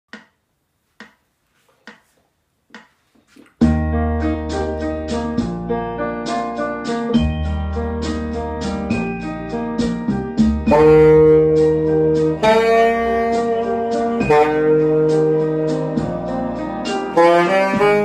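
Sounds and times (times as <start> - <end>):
piano backing track: 3.3 - 18.0.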